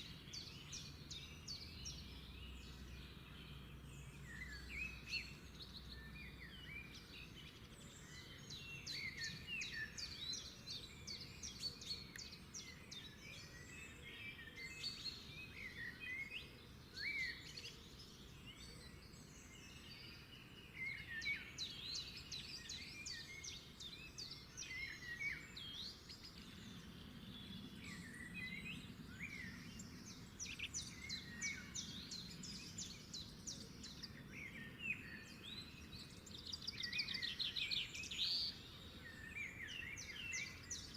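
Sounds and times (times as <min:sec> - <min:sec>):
birds chirping and trilling: 0:00.0 - 0:40.9.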